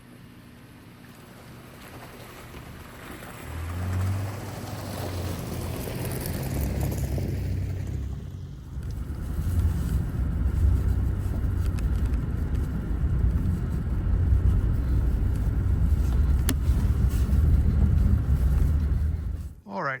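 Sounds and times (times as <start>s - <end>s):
truck driving with snow chains: 0.0s - 19.6s.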